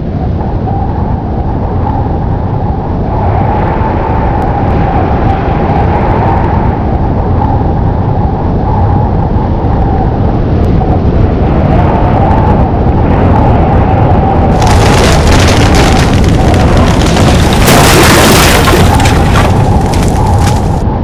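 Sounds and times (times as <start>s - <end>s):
storm wind blowing hard: 0.0s - 21.0s.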